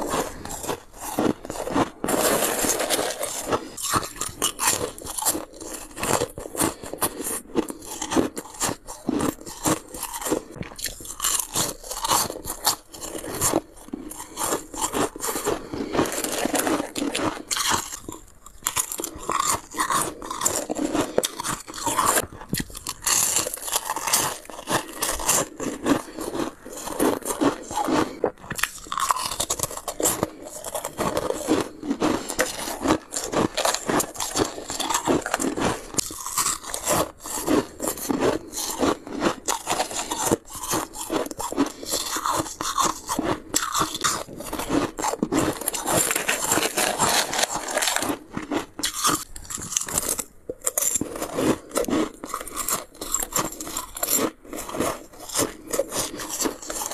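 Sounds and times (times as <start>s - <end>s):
ice crunching between teeth: 0.0s - 56.9s.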